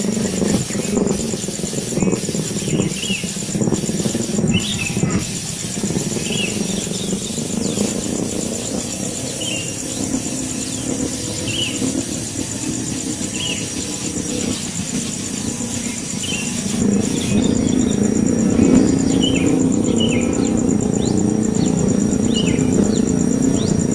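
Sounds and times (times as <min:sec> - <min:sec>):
fast-pulsing insect trill: 0:00.0 - 0:23.9.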